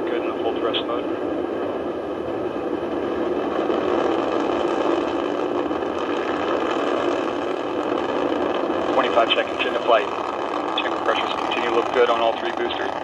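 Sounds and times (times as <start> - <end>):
rocket engine roar: 0.0 - 13.0.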